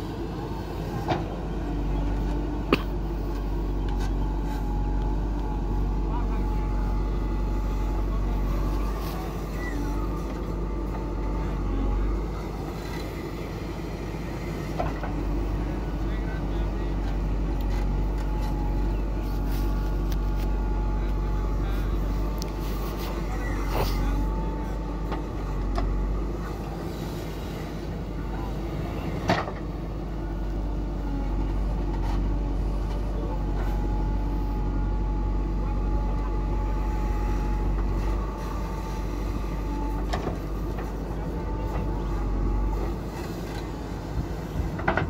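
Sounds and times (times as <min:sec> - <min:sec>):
diesel engine running under load: 0:00.0 - 0:45.0.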